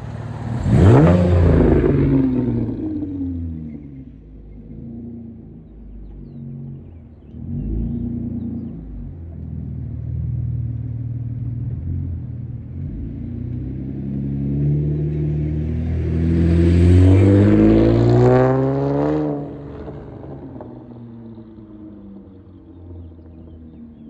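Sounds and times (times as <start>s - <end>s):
car exhaust accelerating: 0.0s - 24.0s.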